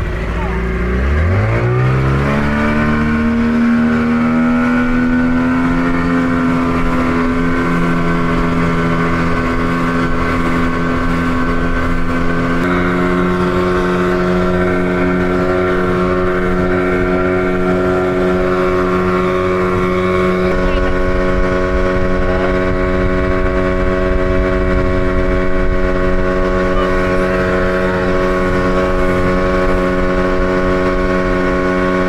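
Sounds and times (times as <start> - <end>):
outboard motor revving: 0.0 - 32.0.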